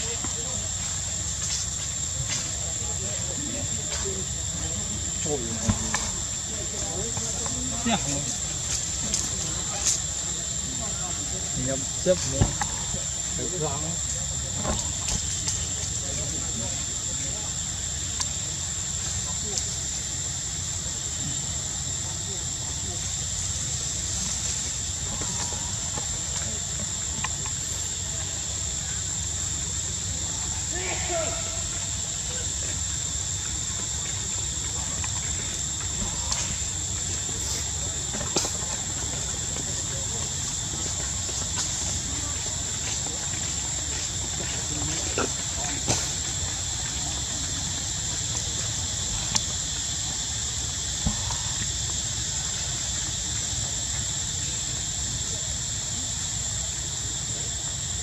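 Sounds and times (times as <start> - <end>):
constant high-pitched whine: 0.0 - 58.0
insects droning: 0.0 - 58.0.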